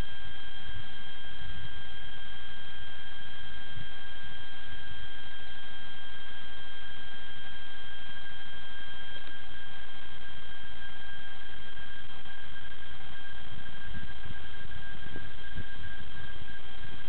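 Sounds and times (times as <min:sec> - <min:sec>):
high electrical whine: 0:00.0 - 0:17.0.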